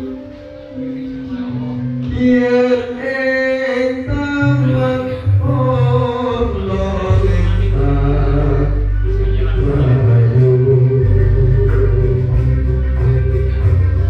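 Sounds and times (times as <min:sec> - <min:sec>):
instrumental song with bass line: 0:00.0 - 0:14.0
person singing: 0:00.0 - 0:14.0.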